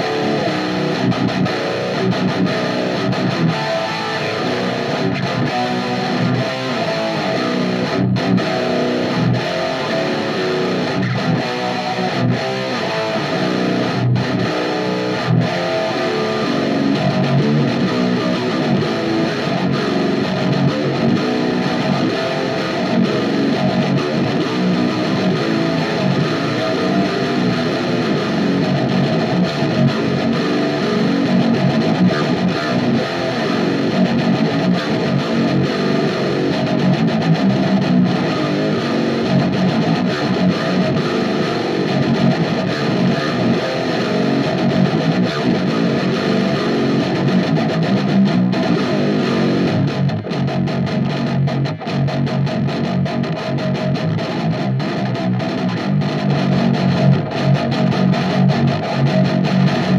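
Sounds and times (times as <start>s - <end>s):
distorted electric guitar riffs: 0.0s - 59.9s.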